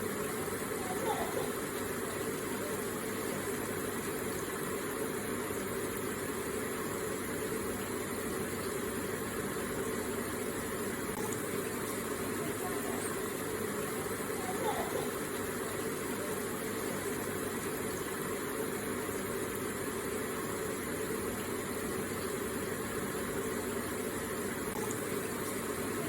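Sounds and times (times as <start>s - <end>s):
trickling water: 0.0s - 26.0s.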